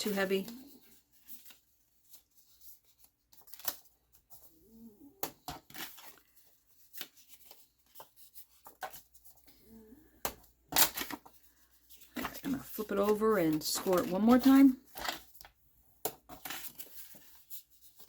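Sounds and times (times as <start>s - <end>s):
cardstock folding and creasing: 0.0s - 4.5s, 5.2s - 9.5s, 10.2s - 18.0s.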